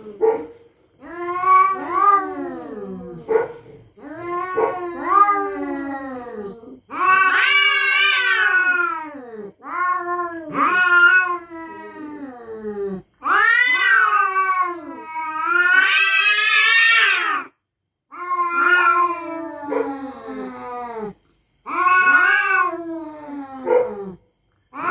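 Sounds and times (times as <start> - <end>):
cats yowling: 1.0 - 3.3, 4.0 - 17.5, 18.1 - 24.9.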